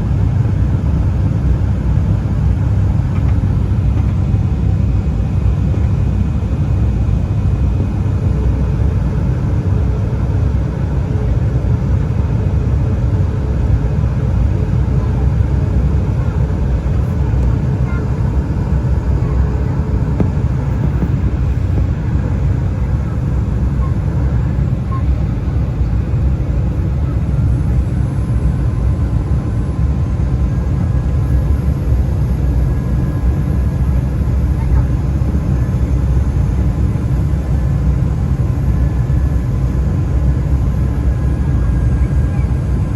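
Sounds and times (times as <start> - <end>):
airliner cabin rumble: 0.0 - 42.9
jet engines droning: 0.0 - 42.9.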